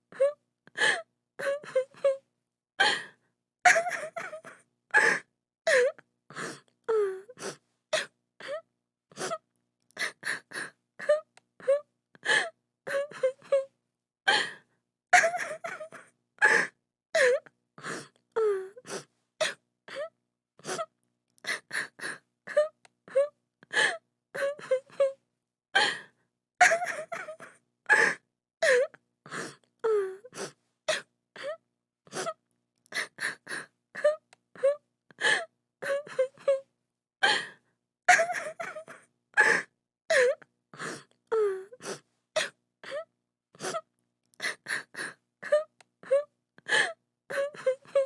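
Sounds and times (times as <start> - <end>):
woman sobbing and whimpering: 0.1 - 2.2, 2.8 - 9.4, 10.0 - 13.7, 15.2 - 20.9, 21.5 - 25.2, 26.6 - 37.5, 38.1 - 48.0.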